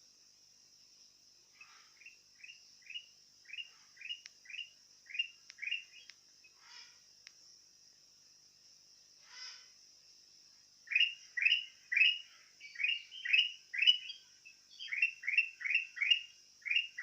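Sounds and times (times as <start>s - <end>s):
steady high hiss: 0.0s - 17.0s
bird chirping: 0.9s - 7.5s, 9.2s - 17.0s.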